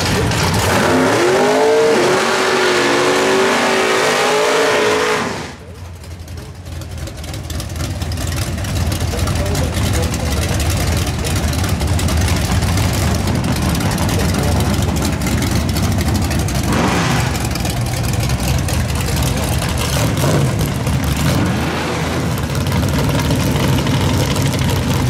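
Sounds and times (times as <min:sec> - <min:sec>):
car engine idling loudly: 0:00.0 - 0:01.0, 0:05.3 - 0:25.0.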